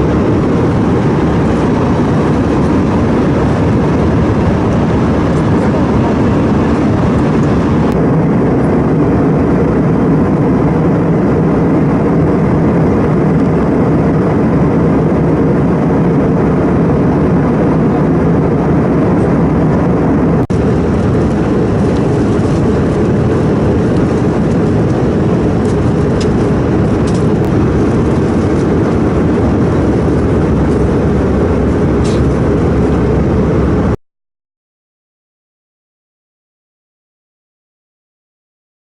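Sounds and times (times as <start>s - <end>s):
airliner cabin engine roar: 0.0s - 34.0s.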